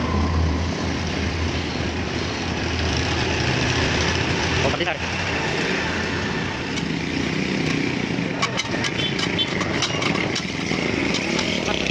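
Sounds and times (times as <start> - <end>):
steady engine-like drone: 0.0 - 11.9.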